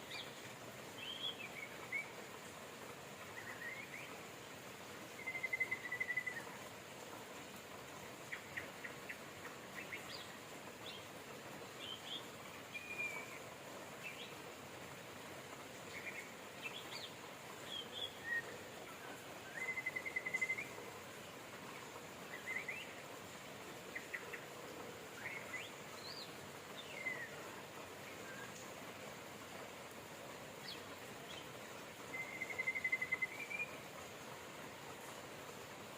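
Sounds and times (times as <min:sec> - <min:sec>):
rain hissing: 0:00.0 - 0:35.9
songbirds chirping: 0:00.0 - 0:35.9.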